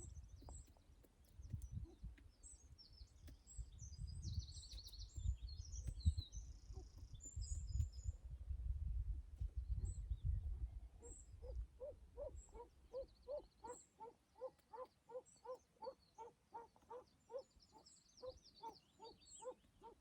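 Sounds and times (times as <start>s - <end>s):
small birds chirping: 0.0s - 8.3s, 9.6s - 20.0s.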